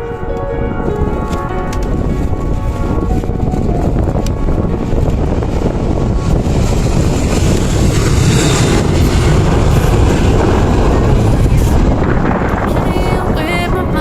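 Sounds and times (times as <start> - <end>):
jet engines roaring: 0.0 - 13.5.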